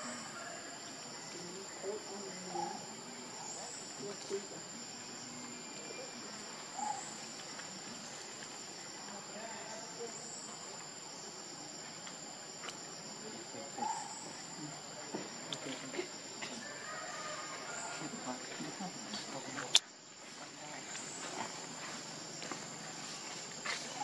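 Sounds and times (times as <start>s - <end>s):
brief insect calls: 0.0s - 24.0s
high-pitched insect chorus: 0.0s - 24.0s.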